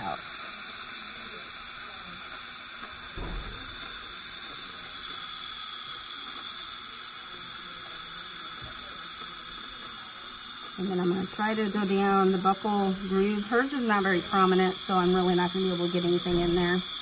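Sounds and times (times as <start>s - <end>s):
dental suction hiss: 0.0s - 17.0s.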